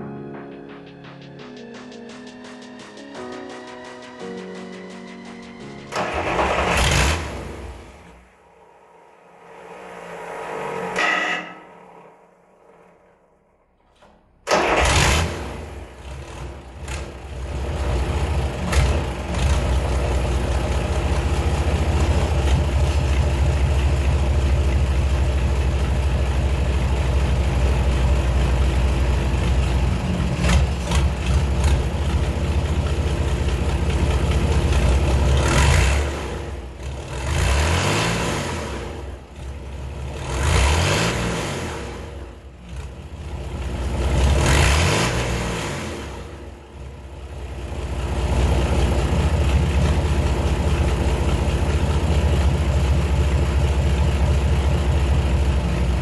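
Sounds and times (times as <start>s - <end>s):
diesel engine starting and running: 0.0s - 56.0s.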